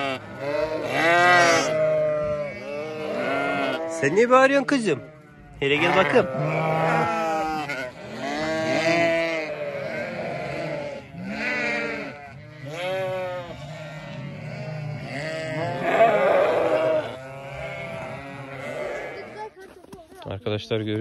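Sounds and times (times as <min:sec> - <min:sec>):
sheep bleating: 0:00.0 - 0:19.6.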